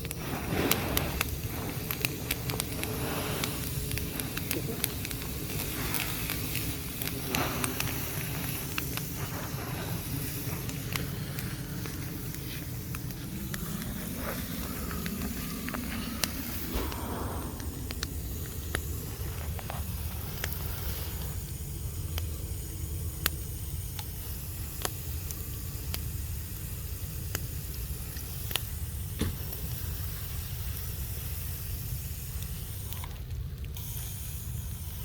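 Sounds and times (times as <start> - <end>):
bonfire rushing: 0.0 - 35.0
fire crackling and popping: 0.0 - 35.0.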